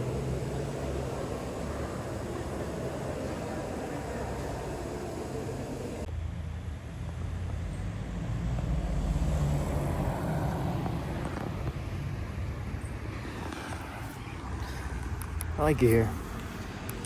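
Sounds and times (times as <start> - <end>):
low rumble of passing vehicles: 0.0 - 17.0.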